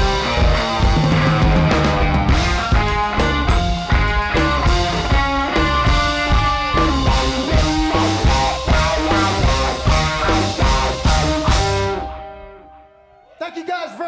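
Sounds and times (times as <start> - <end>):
drum kit beat: 0.0 - 12.1
bass: 0.0 - 12.6
electric guitar: 0.0 - 12.8.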